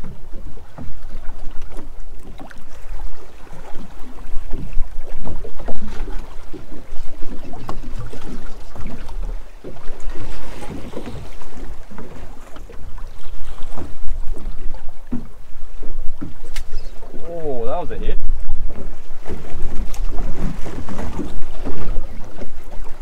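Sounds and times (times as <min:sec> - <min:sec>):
waves slapping against boat hull: 0:00.0 - 0:23.0
wind buffeting microphone: 0:00.0 - 0:23.0.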